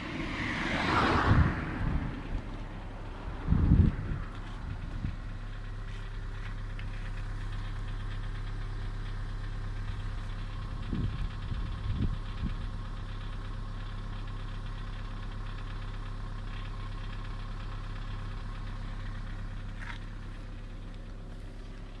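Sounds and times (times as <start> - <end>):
car engine idling with knock: 0.0 - 22.0.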